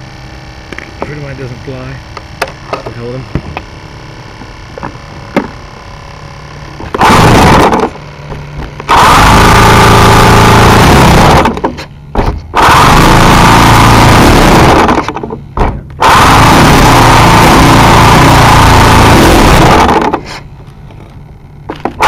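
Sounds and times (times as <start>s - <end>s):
electric starter cranking engine: 0.0s - 20.5s.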